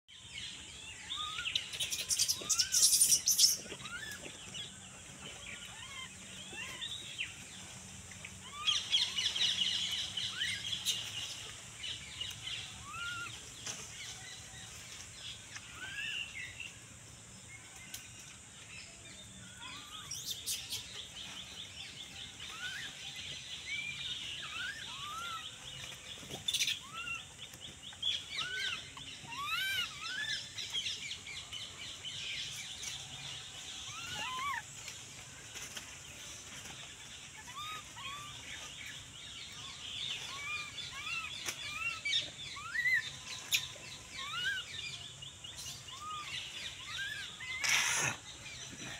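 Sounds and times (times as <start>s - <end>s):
birds chirping: 0.1s - 48.9s.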